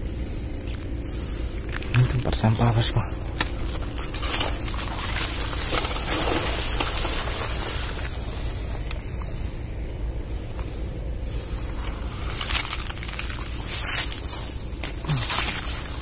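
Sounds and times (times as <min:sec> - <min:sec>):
steady low rumble: 0:00.0 - 0:16.0
leaves and twigs rustling: 0:00.6 - 0:09.6, 0:10.5 - 0:16.0.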